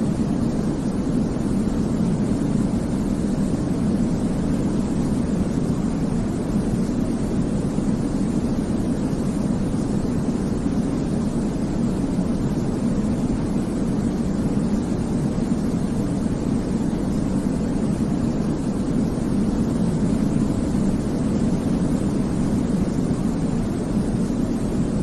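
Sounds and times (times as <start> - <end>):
deep white noise hiss: 0.0 - 25.0.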